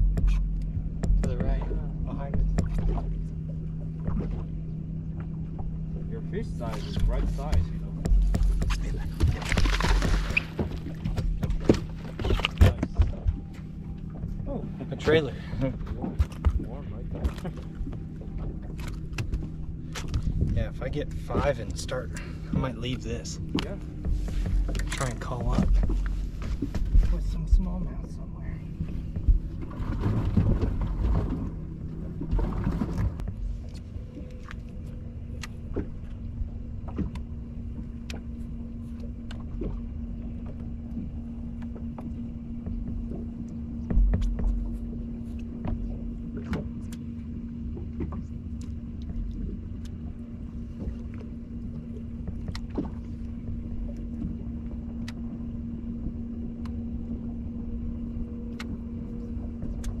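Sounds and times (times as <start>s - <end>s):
wind and water rumble: 0.0s - 60.0s.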